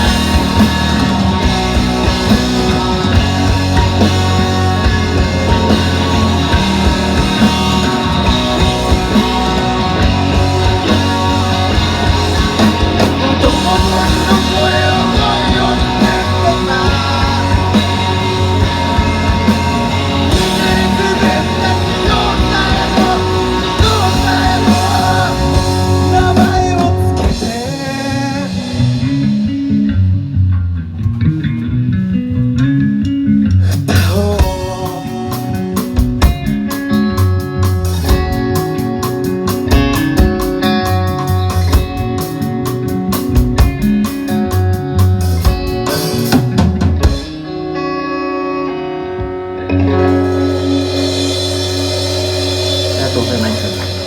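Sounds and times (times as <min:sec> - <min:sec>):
rock band music: 0:00.0 - 0:54.0.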